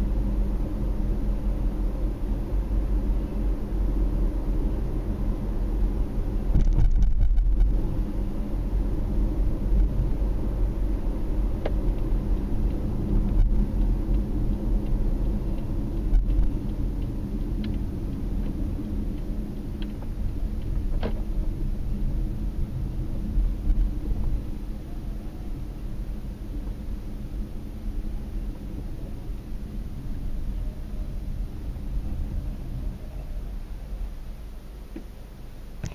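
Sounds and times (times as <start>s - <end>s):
road and engine rumble inside car: 0.0s - 35.9s.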